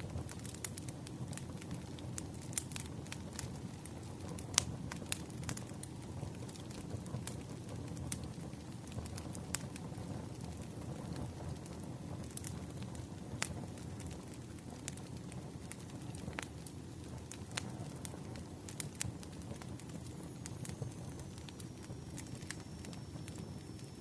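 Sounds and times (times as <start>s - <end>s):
firewood crackling and popping: 0.0s - 24.0s
low rumble of fire: 0.0s - 24.0s.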